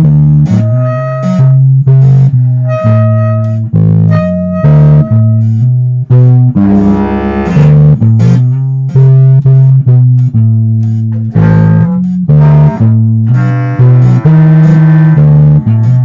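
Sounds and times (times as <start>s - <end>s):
electric bass notes: 0.0s - 16.0s
electric guitar notes: 0.4s - 8.6s, 11.2s - 16.0s.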